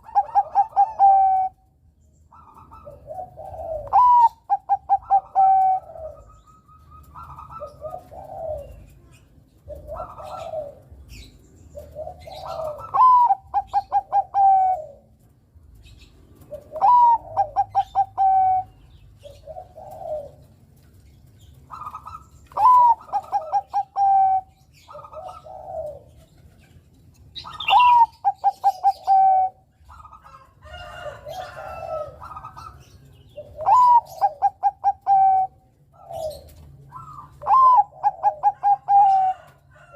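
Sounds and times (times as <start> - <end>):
soft dove coos: 0.0 - 1.7, 2.3 - 39.9
dove singing: 0.0 - 39.9.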